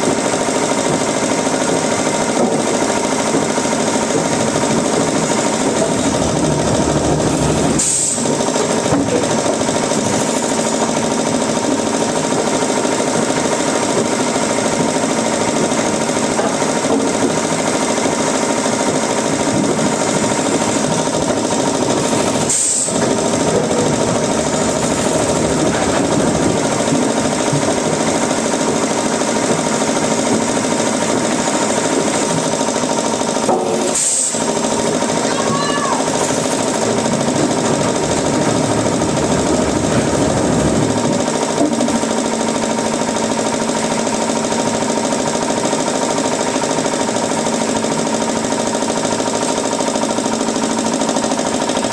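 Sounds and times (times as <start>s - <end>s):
woodworking machinery running: 0.0s - 51.9s.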